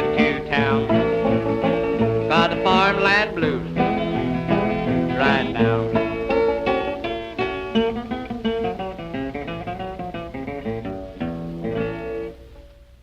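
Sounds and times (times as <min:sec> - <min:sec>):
blues acoustic guitar picking: 0:00.0 - 0:13.0.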